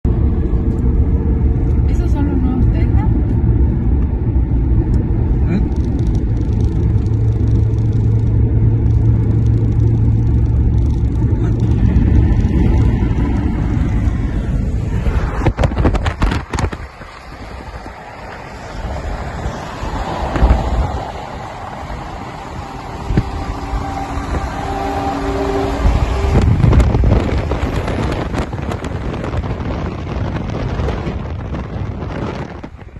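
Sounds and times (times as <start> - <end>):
freeway traffic rumble: 0.0 - 32.9.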